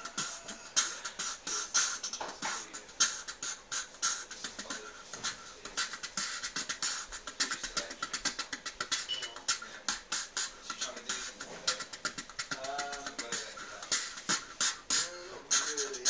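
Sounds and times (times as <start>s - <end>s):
man beatboxing: 0.0s - 16.0s.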